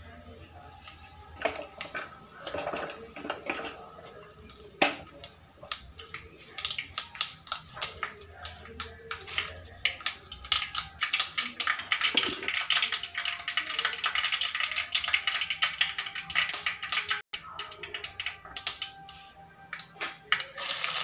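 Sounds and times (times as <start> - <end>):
faint sizzle: 0.0 - 21.0
seeds crackling in hot oil: 0.2 - 21.0.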